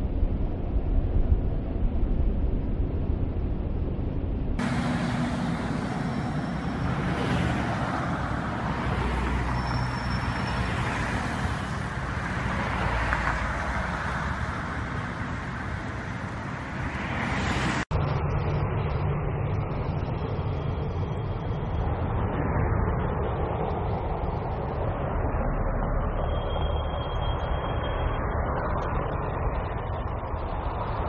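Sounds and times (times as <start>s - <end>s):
low wind rumble: 0.0s - 31.0s
cars passing: 4.6s - 31.0s.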